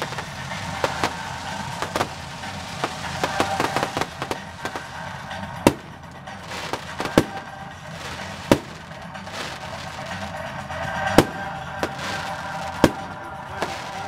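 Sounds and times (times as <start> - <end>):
fireworks cracking and banging: 0.0 - 14.0.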